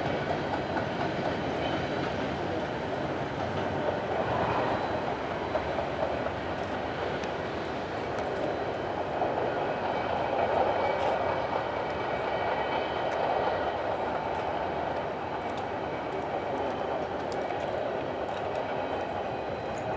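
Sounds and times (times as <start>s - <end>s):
train wheels rolling on track: 0.0s - 19.9s.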